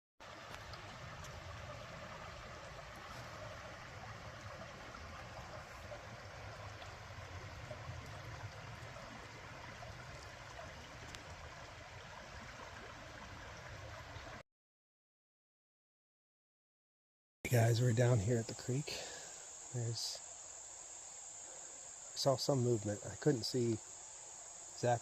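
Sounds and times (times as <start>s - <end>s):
creek water flowing: 0.2s - 14.4s, 17.6s - 25.0s.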